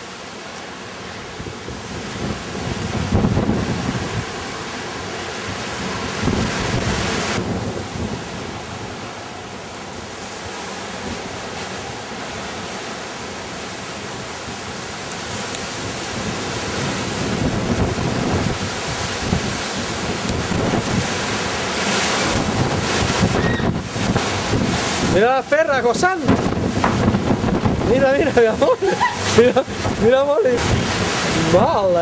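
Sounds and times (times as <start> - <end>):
wind buffeting microphone: 1.1 - 32.0.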